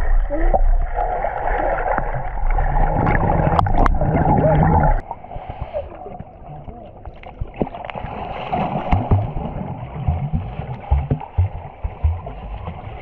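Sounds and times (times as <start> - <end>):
low underwater rumble: 0.0 - 13.0
underwater churning water and bubbles: 0.0 - 13.0.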